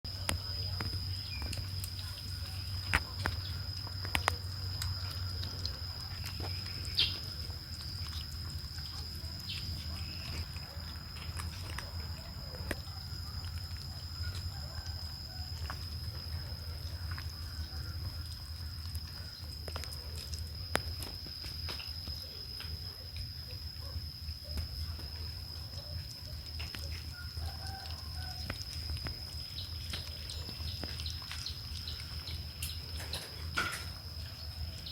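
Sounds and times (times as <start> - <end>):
kittens chewing: 0.0 - 34.9
steady low hum: 0.1 - 34.9.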